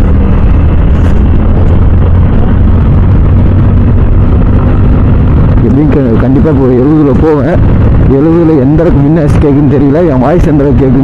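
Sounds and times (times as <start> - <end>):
motorcycle riding noise: 0.0 - 11.0
wind rumble on microphone: 0.0 - 11.0.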